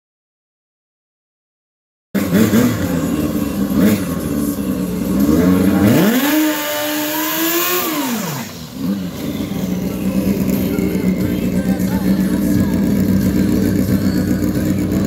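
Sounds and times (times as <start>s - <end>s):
snowmobile engine revving: 2.2s - 15.0s.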